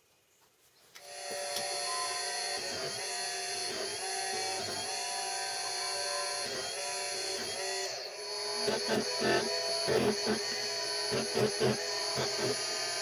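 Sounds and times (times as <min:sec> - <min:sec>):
machine motor whining: 0:01.0 - 0:13.0.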